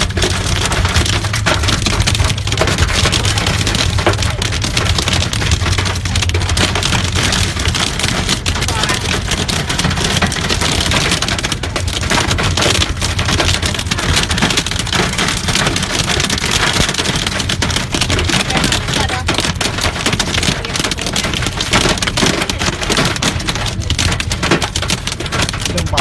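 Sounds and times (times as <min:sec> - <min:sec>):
hail and rain on car roof: 0:00.0 - 0:26.0.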